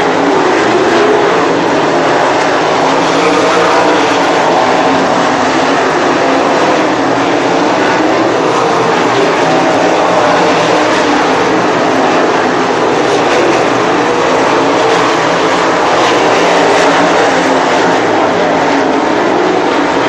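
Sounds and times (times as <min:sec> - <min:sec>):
race car engines blaring: 0:00.0 - 0:20.0.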